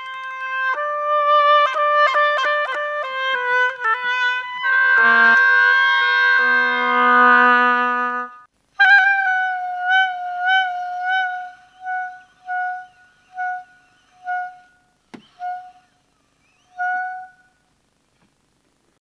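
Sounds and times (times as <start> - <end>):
oboe playing high note: 0.0 - 17.6.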